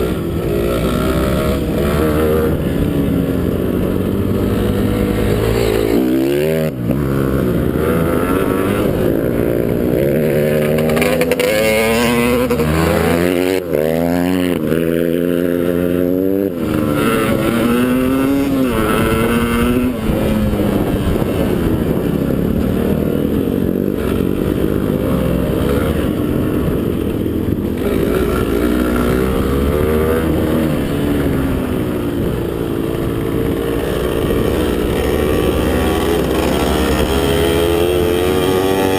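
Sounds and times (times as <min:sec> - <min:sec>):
motocross motorcycle engine revving: 0:00.0 - 0:38.9.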